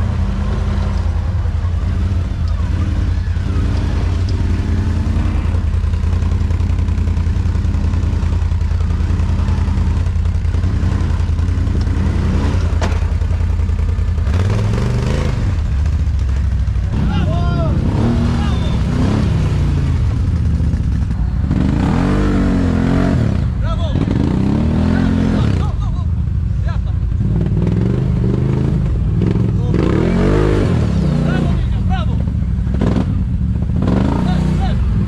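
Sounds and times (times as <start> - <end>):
atv engine revving: 0.0 - 35.0.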